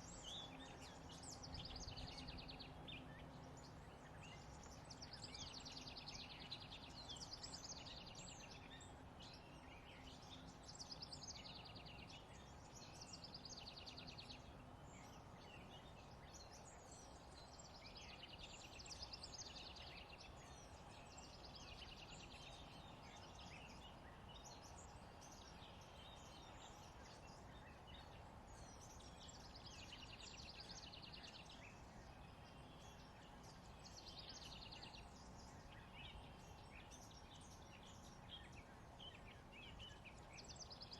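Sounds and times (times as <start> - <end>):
low outdoor background hum: 0.0 - 40.9.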